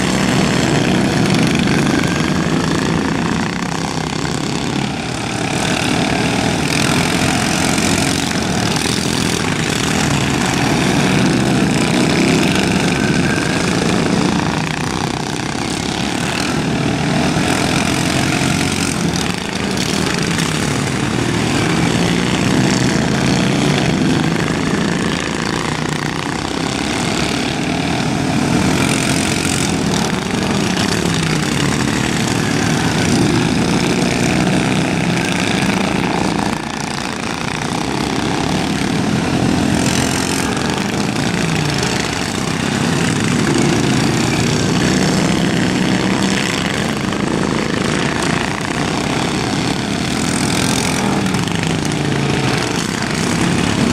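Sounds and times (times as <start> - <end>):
lawn mower engines racing: 0.0 - 53.9.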